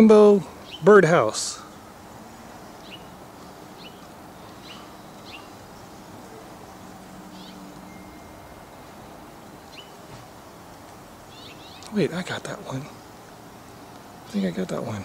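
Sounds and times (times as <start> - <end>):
bird chirping: 0.0 - 14.8
background hiss: 0.0 - 15.0.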